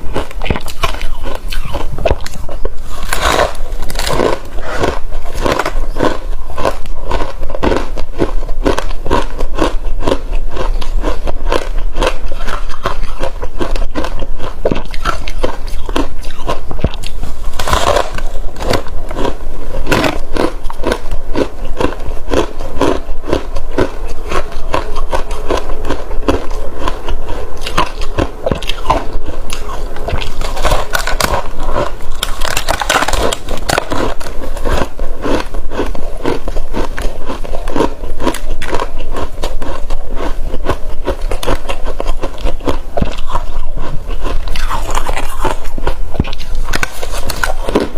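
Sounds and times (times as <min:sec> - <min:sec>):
crunching frozen ice: 0:00.0 - 0:47.9.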